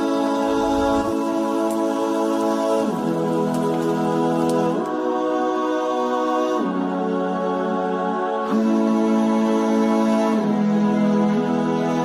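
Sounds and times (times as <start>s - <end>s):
slow new-age music: 0.0s - 12.0s.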